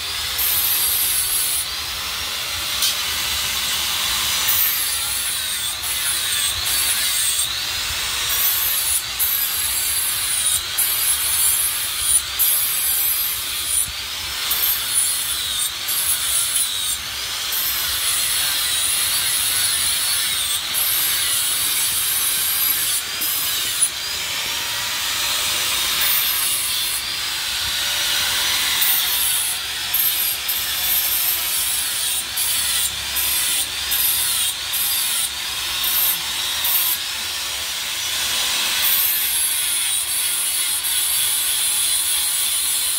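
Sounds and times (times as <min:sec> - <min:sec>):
angle grinder on steel blade: 0:00.0 - 0:42.9.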